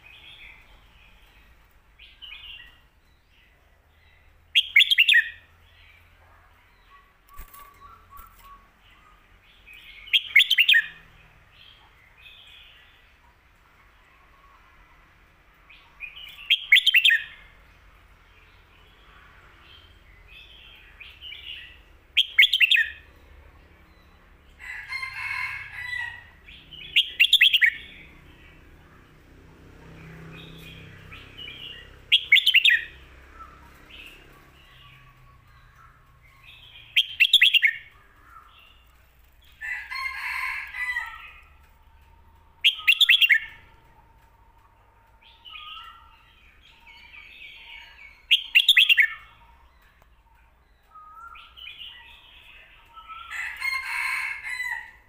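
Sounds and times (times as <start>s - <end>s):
bird singing: 0.0s - 13.2s, 15.6s - 29.3s, 29.9s - 54.8s.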